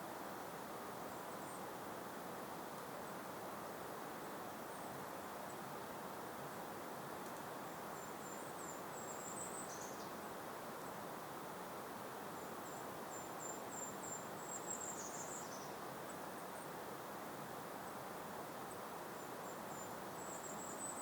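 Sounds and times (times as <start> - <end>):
faint breeze hiss: 0.0 - 21.0
songbird singing: 1.0 - 21.0.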